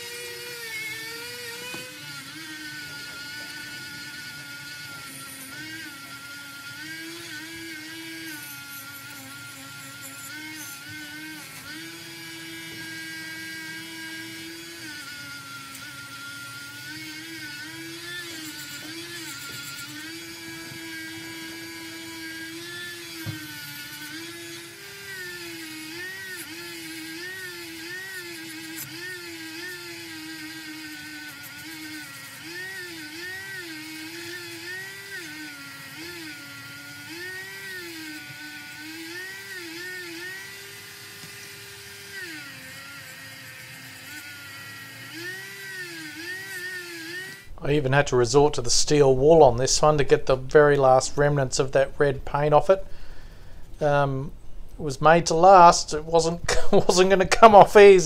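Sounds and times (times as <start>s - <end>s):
rotary tool whining on metal: 0.0s - 47.8s.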